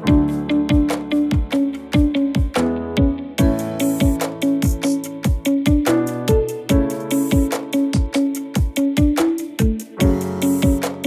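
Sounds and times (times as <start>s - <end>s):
held keyboard notes: 0.0s - 11.0s.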